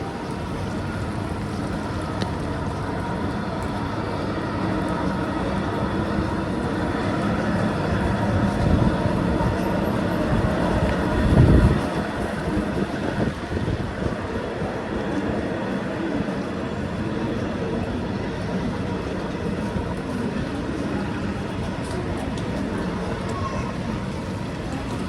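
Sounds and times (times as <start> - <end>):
low rumble of passing vehicles: 0.0 - 25.0.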